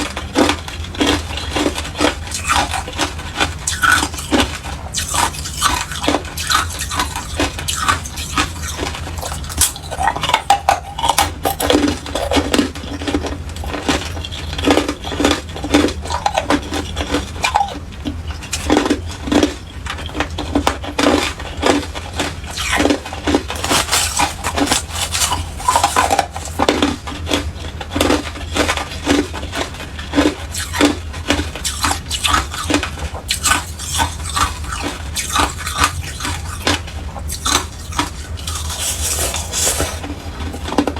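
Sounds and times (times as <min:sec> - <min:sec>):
ice crunching while chewed: 0:00.0 - 0:40.9
steady low hum: 0:00.0 - 0:40.9.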